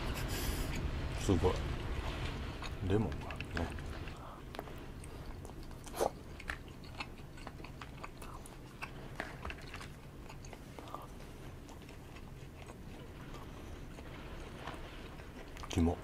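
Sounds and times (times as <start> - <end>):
low rumble of wind: 0.0 - 16.0
person chewing food: 2.3 - 15.8.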